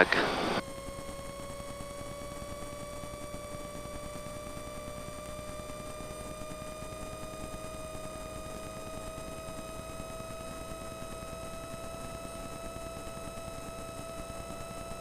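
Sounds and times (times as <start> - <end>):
aircraft engine running up: 0.0 - 15.0.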